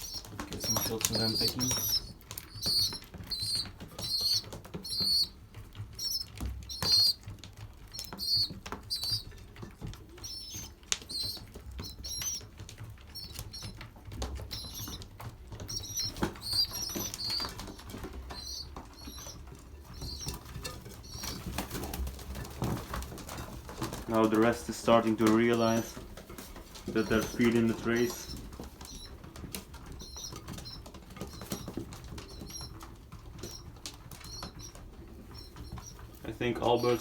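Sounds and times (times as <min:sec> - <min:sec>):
beaks clicking on grain: 0:00.0 - 0:37.0
young pigeons peeping: 0:00.0 - 0:37.0.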